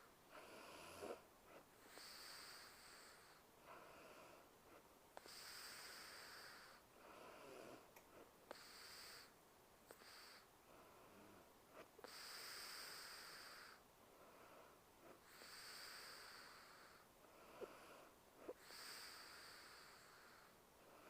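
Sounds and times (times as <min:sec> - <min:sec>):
woman breathing softly in sleep: 0:00.0 - 0:21.0.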